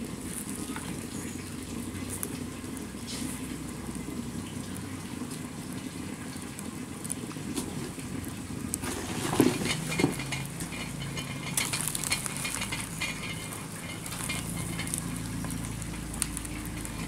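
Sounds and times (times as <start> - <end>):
small fire crackles: 0.0 - 17.0
wood fire burning: 0.0 - 17.0.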